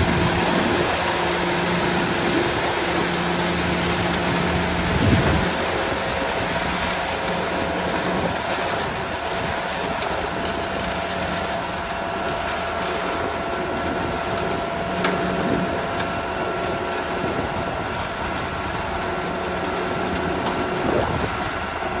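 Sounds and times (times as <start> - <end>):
concrete mixer running: 0.0 - 22.0.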